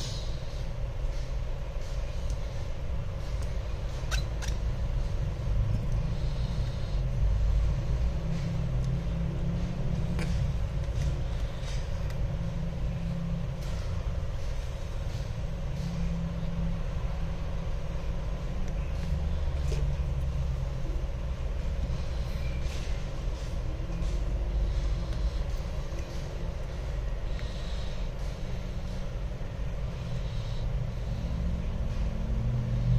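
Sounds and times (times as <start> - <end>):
faint constant hum: 0.0 - 32.9
low background rumble: 0.0 - 32.9.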